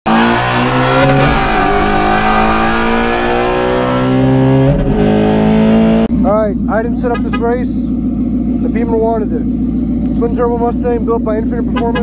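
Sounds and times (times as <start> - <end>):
car engine accelerating: 0.1 - 12.0.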